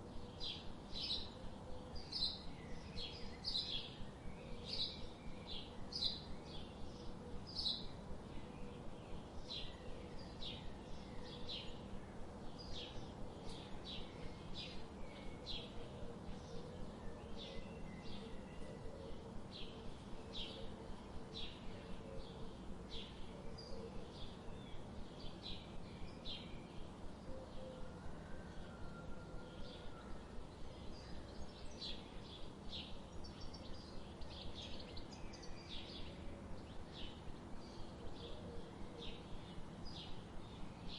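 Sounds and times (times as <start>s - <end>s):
low background hiss: 0.0s - 40.9s.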